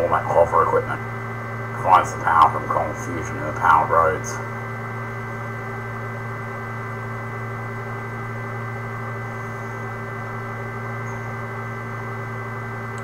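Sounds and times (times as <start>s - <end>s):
electrical hum with hiss: 0.0s - 13.0s.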